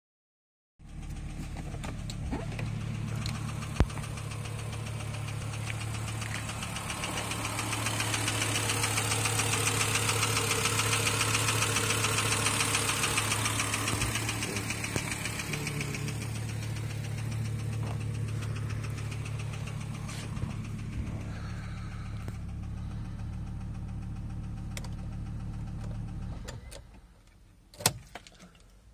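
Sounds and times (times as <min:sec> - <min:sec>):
car engine idling with knock: 0:00.8 - 0:27.1.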